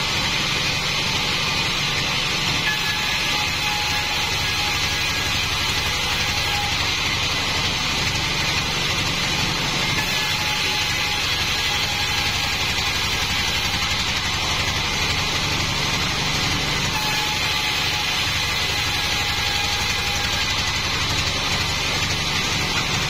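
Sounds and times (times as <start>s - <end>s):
sawmill engine low pulse: 0.0s - 23.0s.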